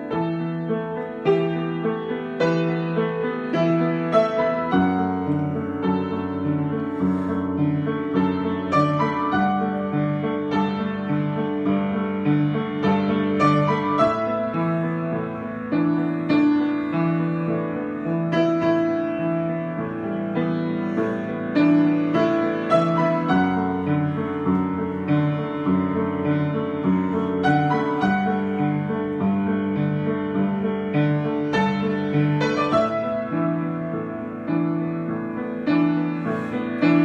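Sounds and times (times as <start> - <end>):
solo piano improvisation: 0.0 - 37.0.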